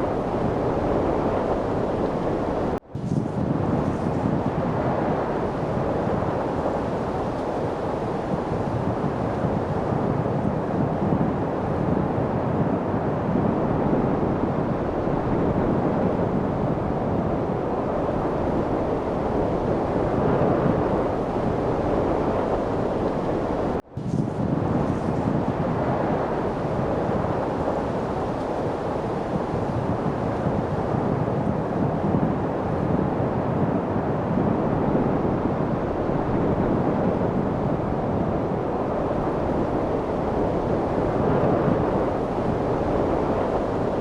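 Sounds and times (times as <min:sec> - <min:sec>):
light wind blowing: 0:00.0 - 0:44.0.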